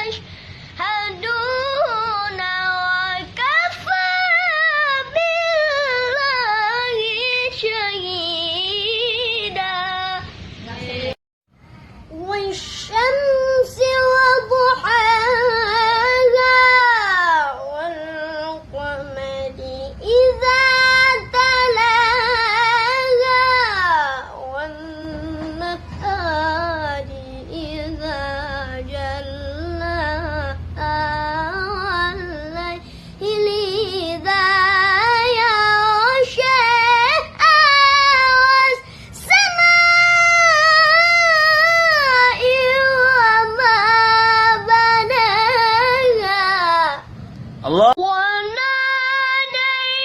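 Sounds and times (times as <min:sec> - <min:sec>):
boy reciting melodically: 0:00.8 - 0:11.2, 0:12.1 - 0:50.0.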